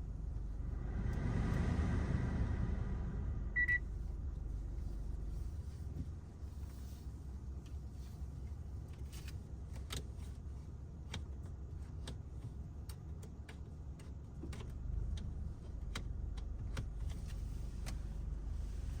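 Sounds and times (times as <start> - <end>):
car engine rumble inside cabin: 0.0 - 19.0.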